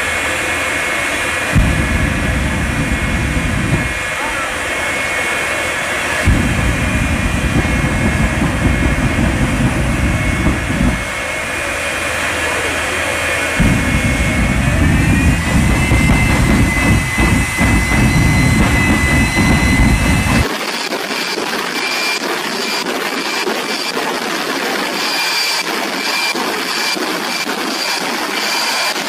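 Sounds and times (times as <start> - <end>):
jet engine rumble and whine: 0.0 - 29.0.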